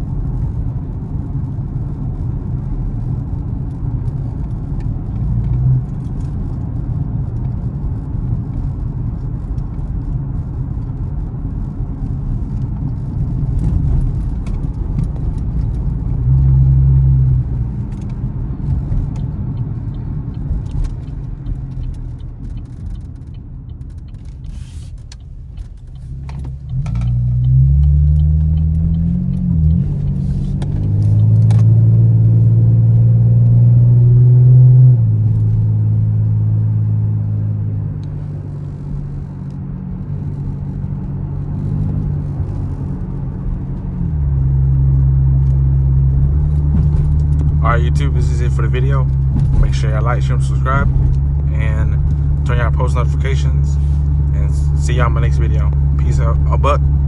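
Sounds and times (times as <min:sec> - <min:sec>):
car engine and exhaust rumbling: 0:00.0 - 0:57.0
road noise: 0:00.0 - 0:57.0.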